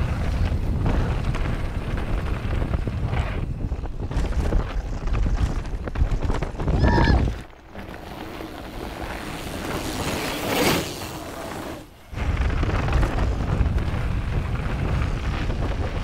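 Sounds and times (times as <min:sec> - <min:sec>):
bike tyres on loose dirt: 0:00.0 - 0:16.0
wind buffeting camera: 0:00.0 - 0:16.0.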